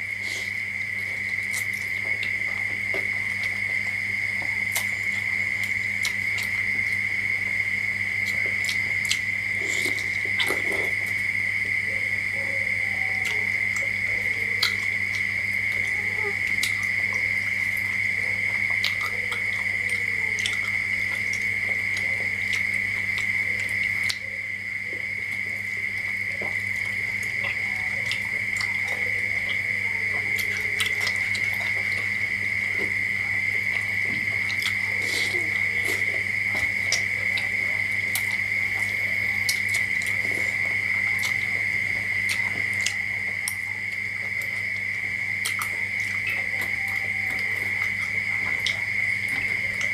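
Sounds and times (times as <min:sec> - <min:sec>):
chewing and lip smacks: 0:00.3 - 0:12.4, 0:13.2 - 0:49.9.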